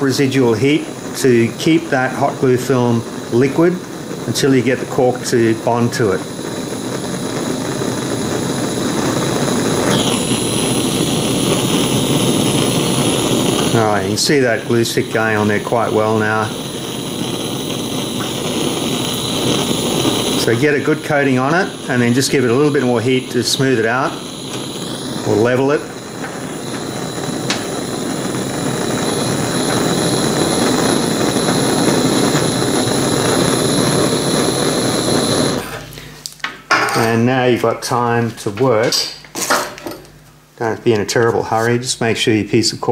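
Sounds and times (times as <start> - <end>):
high hiss: 0.0 - 36.4
propane torch flame rushing: 0.0 - 36.4.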